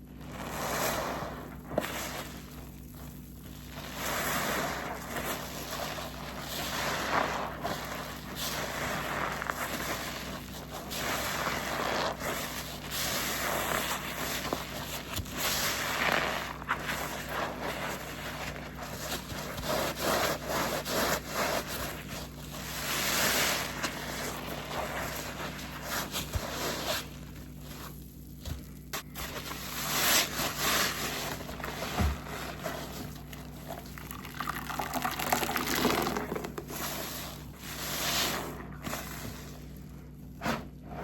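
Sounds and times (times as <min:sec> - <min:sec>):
wet sponge squelching: 0:00.0 - 0:41.0.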